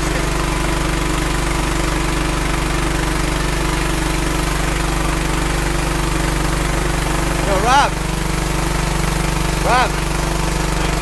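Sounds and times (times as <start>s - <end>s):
high-pressure water jet hissing: 0.0s - 11.0s
small engine drone: 0.0s - 11.0s.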